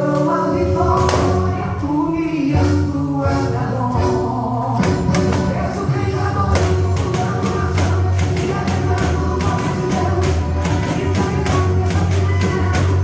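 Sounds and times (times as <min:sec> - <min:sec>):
gospel music with singing: 0:00.0 - 0:13.0.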